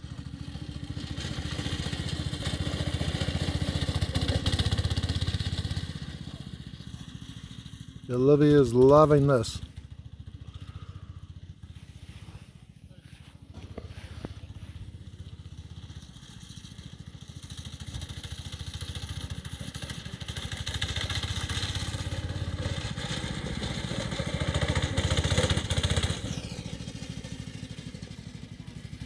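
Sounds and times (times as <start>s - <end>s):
go-kart engine revving: 0.0s - 12.4s, 13.5s - 29.0s.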